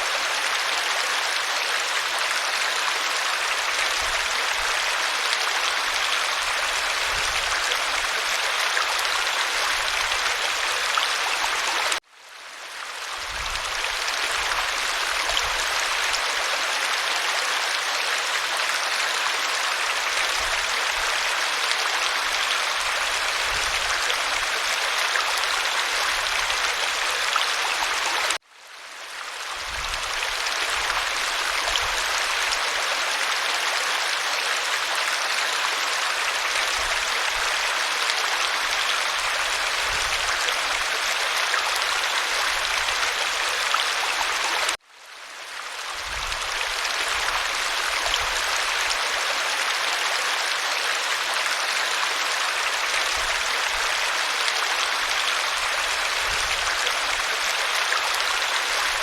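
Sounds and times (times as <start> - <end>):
waterfall rushing water: 0.0 - 12.0, 13.2 - 28.4, 29.4 - 44.8, 45.6 - 59.0.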